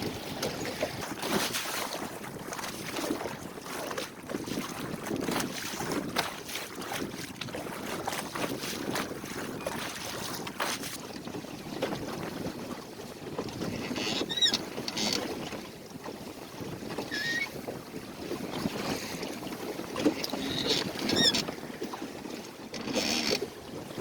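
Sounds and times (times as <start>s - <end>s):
wind buffeting microphone: 0.0s - 22.5s
water splashing against hull: 0.0s - 24.0s.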